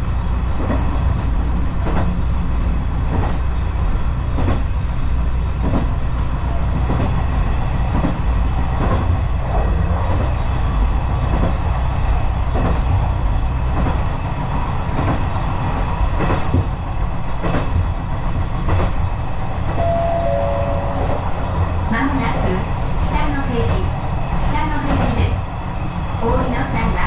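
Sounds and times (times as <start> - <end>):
diesel railcar rumble: 0.0 - 27.0.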